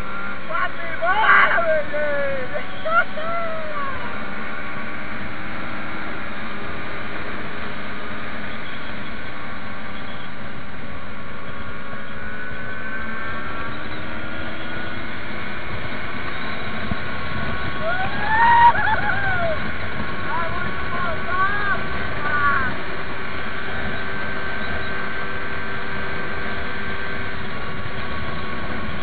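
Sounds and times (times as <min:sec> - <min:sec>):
motorcycle engine running: 0:00.0 - 0:29.0
wind rushing over microphone: 0:03.4 - 0:29.0.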